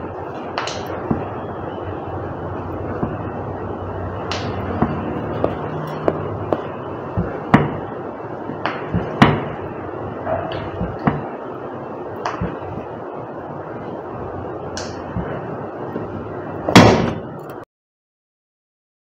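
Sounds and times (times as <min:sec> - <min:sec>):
steady background noise: 0:00.0 - 0:17.7.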